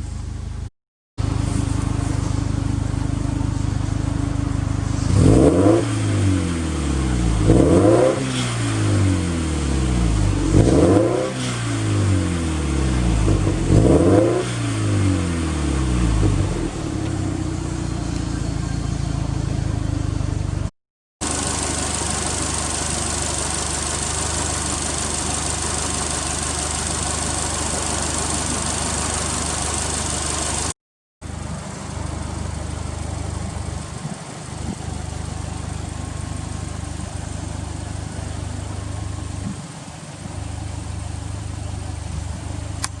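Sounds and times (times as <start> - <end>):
car engine idling: 0.0 - 11.0, 11.8 - 43.0.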